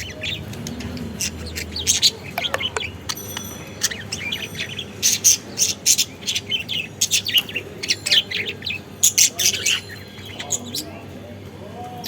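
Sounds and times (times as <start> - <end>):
budgerigars chirping: 0.0 - 11.2.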